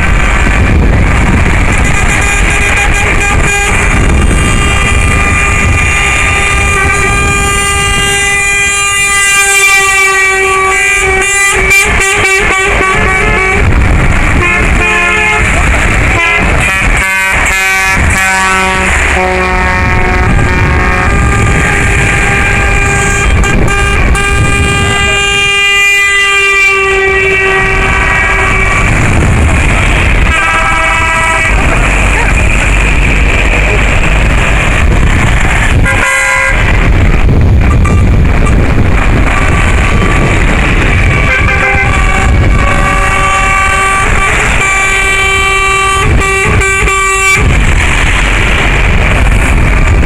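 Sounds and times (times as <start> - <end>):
truck engines rumbling: 0.0 - 50.0
lorry air horn blast: 1.6 - 33.1, 35.3 - 36.8, 39.3 - 48.1.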